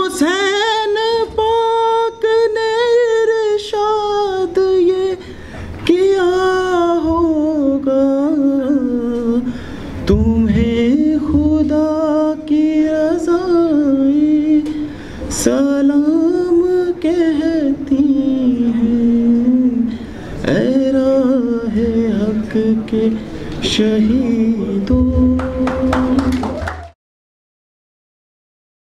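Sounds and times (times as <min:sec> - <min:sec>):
man singing into microphone: 0:00.0 - 0:26.4.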